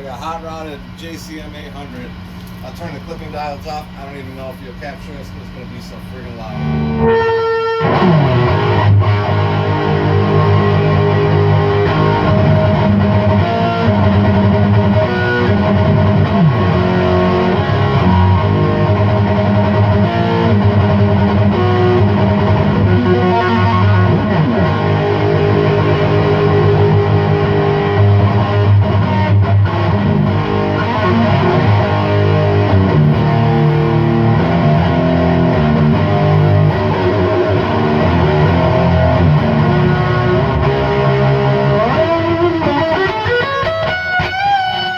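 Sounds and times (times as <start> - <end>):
distorted electric guitar riffs: 6.3 - 44.9.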